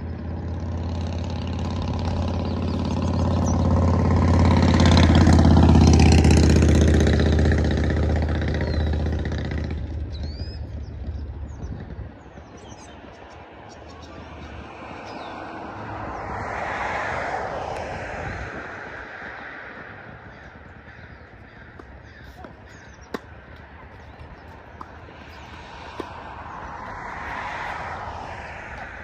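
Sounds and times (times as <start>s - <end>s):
passing traffic rush: 0.0s - 29.0s.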